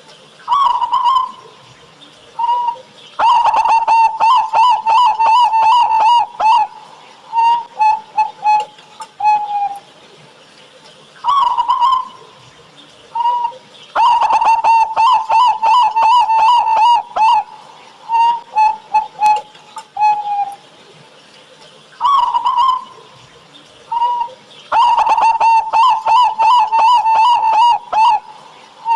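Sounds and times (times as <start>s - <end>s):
zebra dove cooing song: 0.3s - 10.1s, 11.1s - 20.9s, 21.9s - 28.9s.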